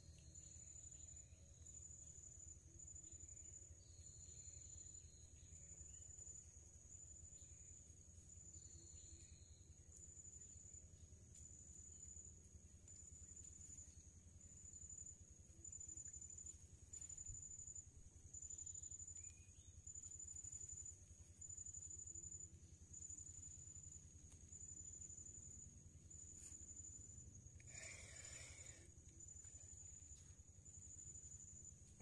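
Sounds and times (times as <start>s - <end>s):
faint low hum: 0.0s - 32.0s
high-pitched insect trill: 0.0s - 32.0s.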